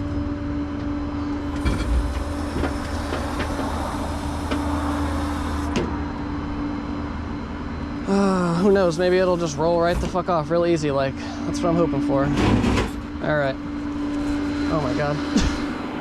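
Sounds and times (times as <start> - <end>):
truck engine running: 0.0 - 15.8
hydraulic whine: 0.0 - 16.0.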